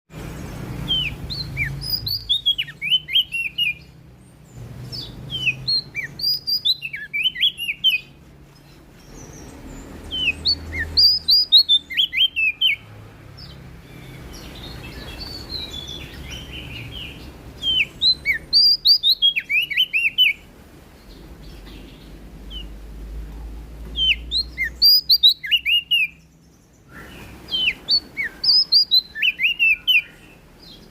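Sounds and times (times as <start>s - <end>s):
warbler singing: 0.1s - 30.9s.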